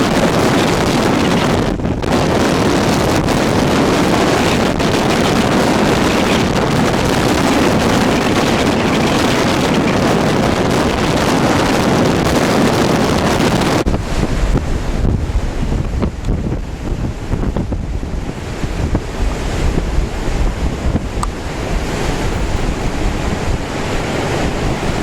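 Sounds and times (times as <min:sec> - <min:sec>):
storm wind and surf roaring: 0:00.0 - 0:25.0
wind buffeting microphone: 0:00.0 - 0:25.0.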